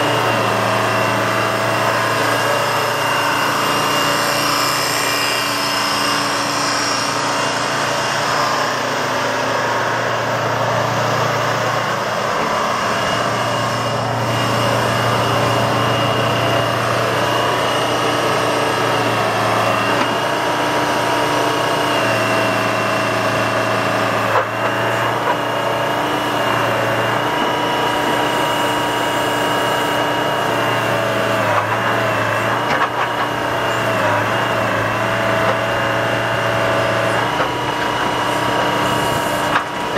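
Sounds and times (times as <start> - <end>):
excavator engine running: 0.0 - 39.9
hydraulic whine: 0.0 - 39.9.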